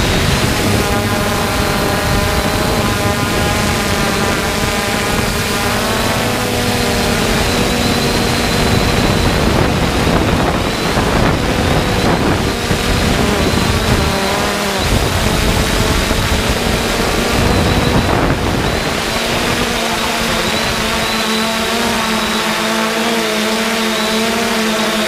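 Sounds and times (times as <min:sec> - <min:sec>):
drone motors droning: 0:00.0 - 0:25.0
wind on microphone: 0:00.0 - 0:25.0.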